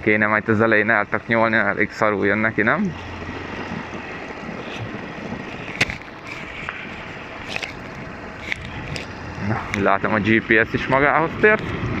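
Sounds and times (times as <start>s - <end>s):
wind and motorcycle road noise: 0.0s - 12.0s.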